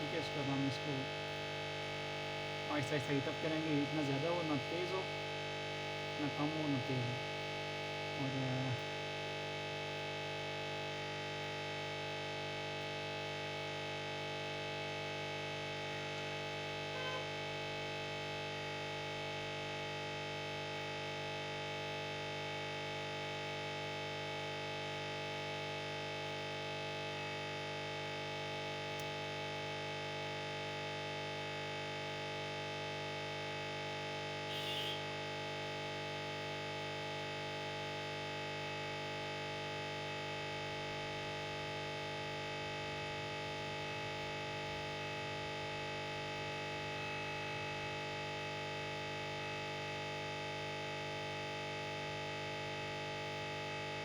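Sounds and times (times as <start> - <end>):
electrical buzzing hum: 0.0 - 54.0.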